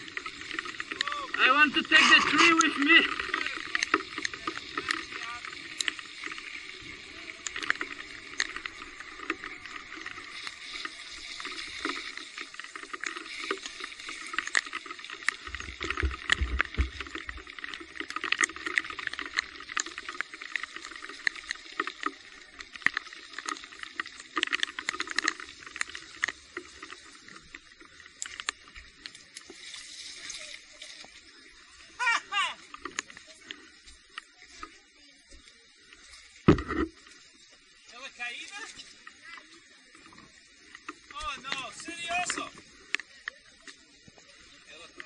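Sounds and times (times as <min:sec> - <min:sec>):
rain hissing on trail: 0:00.0 - 0:45.0.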